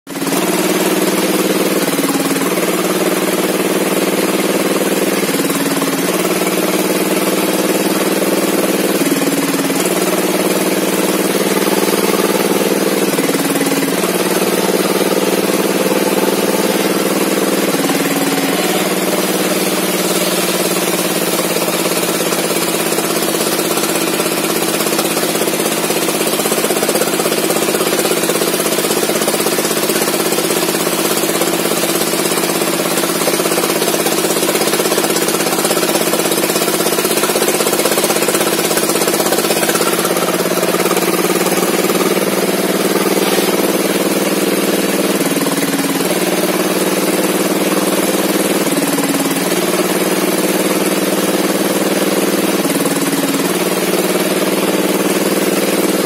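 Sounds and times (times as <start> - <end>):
sawmill engine running: 0.1 - 56.0.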